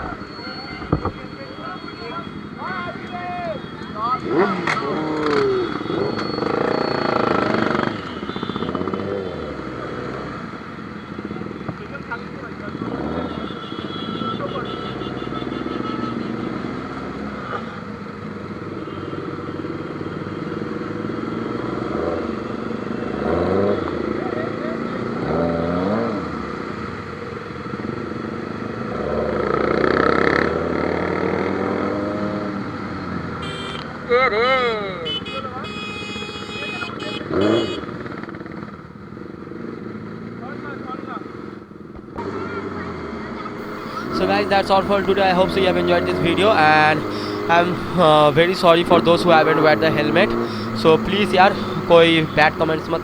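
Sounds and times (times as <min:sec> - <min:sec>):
motorcycle engines revving: 0:00.0 - 0:34.1, 0:36.4 - 0:53.0.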